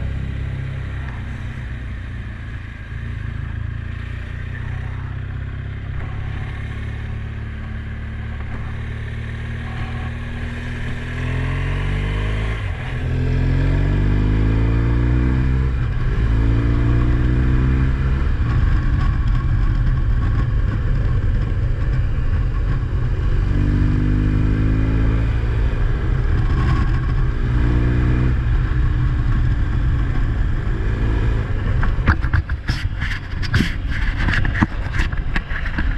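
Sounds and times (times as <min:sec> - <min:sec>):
vehicle engine accelerating: 0:00.0 - 0:35.9.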